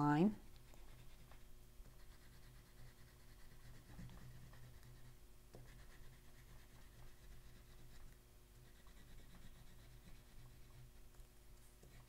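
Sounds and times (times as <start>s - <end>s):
low steady hum: 0.0s - 12.0s
pastel scratching on paper: 0.6s - 11.1s.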